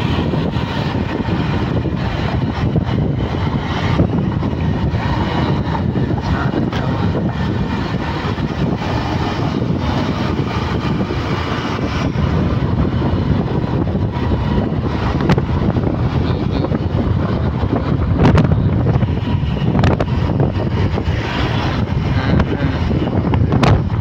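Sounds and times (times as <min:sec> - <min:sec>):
road noise: 0:00.0 - 0:24.0
vehicle engine drone: 0:00.0 - 0:24.0.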